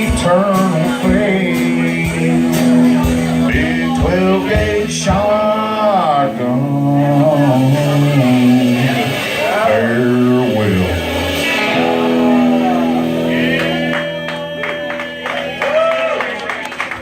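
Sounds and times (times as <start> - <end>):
man singing long notes: 0.0 - 15.0
guitar chords: 0.0 - 17.0.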